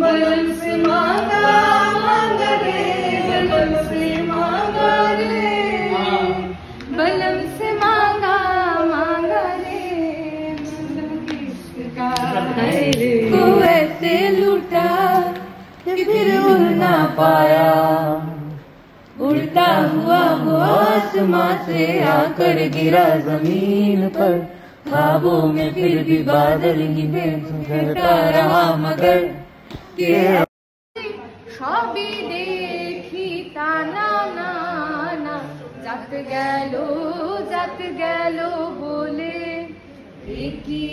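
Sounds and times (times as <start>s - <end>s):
woman singing unaccompanied: 0.0s - 18.3s, 19.2s - 29.4s, 30.1s - 40.9s.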